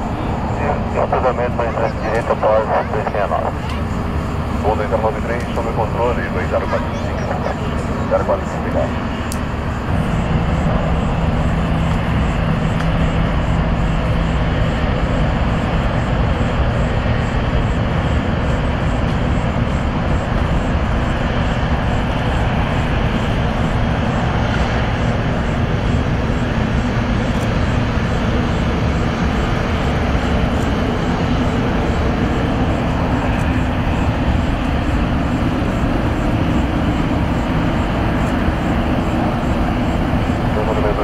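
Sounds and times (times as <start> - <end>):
jet engines at takeoff thrust: 0.0 - 41.0.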